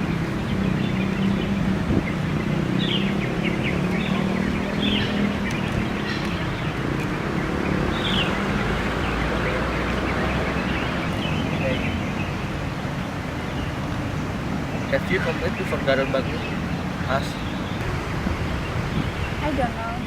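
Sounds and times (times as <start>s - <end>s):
high bird chirps: 0.5s - 19.5s.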